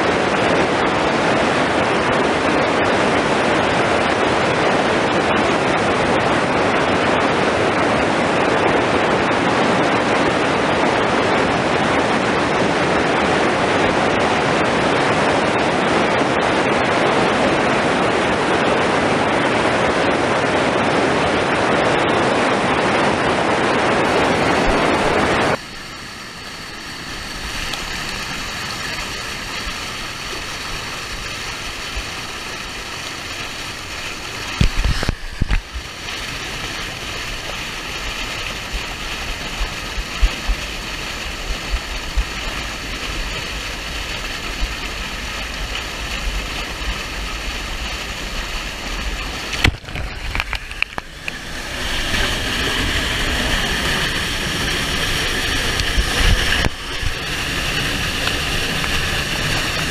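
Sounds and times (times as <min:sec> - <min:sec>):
muffled water sound: 0:00.0 - 0:59.9
waterfall rushing over rock: 0:00.0 - 0:59.9.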